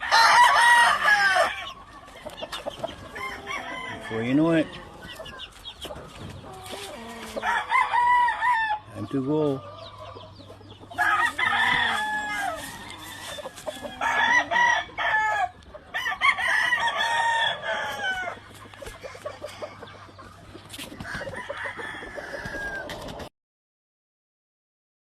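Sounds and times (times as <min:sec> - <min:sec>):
roosters crowing: 0:00.0 - 0:23.3.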